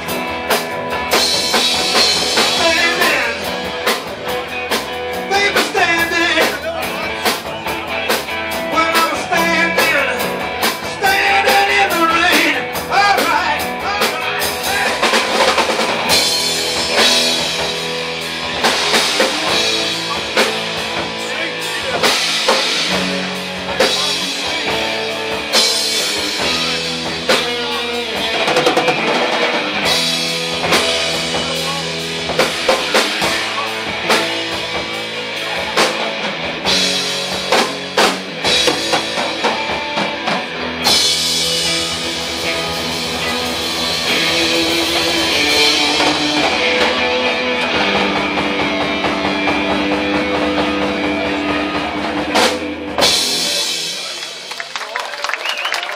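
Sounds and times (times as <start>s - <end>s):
bass guitar: 0.0s - 54.6s
drum kit: 0.0s - 55.9s
electric guitars: 0.0s - 55.9s.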